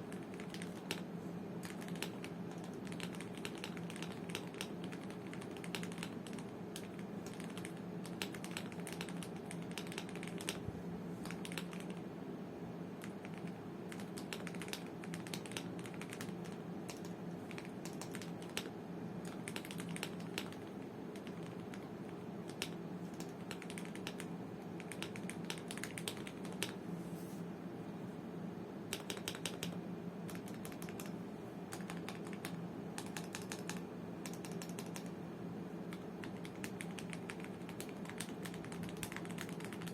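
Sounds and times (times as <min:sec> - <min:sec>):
typing on mechanical keyboard: 0:00.0 - 0:10.6, 0:11.2 - 0:12.0, 0:13.0 - 0:26.8, 0:28.9 - 0:35.1, 0:35.9 - 0:39.9
steady low hum: 0:00.0 - 0:39.9.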